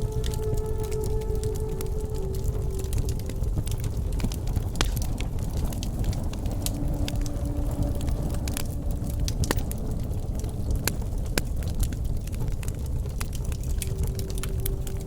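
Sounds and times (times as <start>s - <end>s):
burning wood crackling and popping: 0.0s - 15.0s
wood fire roaring: 0.0s - 15.0s.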